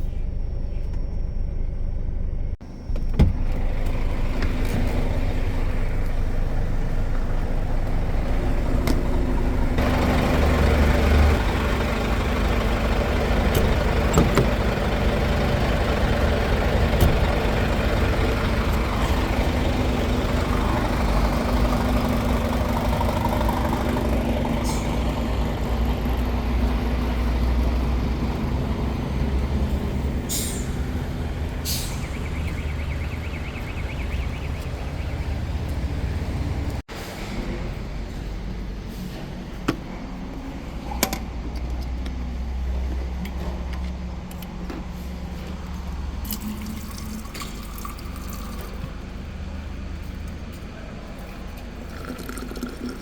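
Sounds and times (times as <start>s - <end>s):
diesel truck engine hum: 0.0s - 53.0s
road noise: 0.0s - 53.0s.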